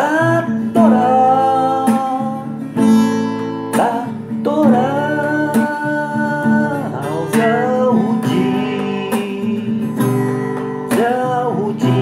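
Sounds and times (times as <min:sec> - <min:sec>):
person singing wordless vowels: 0:00.0 - 0:02.6, 0:03.8 - 0:10.2, 0:10.9 - 0:12.0
acoustic guitar strumming: 0:00.0 - 0:12.0.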